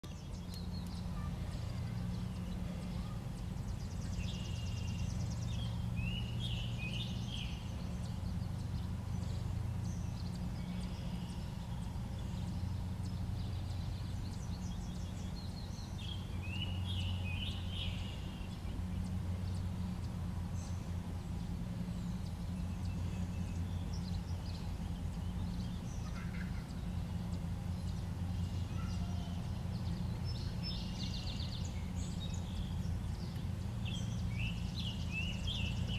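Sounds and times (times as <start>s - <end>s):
birds singing and calling: 0.0s - 35.9s
car interior rumble: 0.0s - 35.9s.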